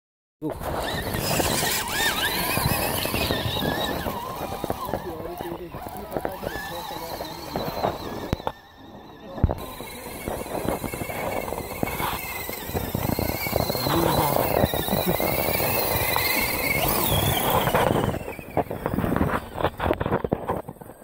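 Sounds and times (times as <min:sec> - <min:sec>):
electric motor and gear whine: 0:00.4 - 0:21.0
tyres churning through mud: 0:00.5 - 0:21.0.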